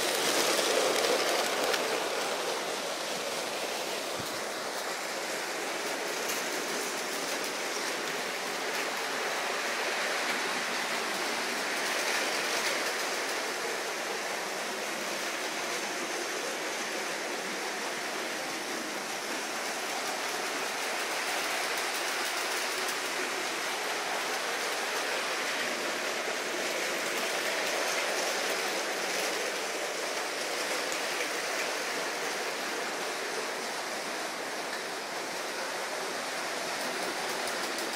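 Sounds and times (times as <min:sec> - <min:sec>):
toy train wheels rattling: 0:00.0 - 0:36.0, 0:36.6 - 0:37.9.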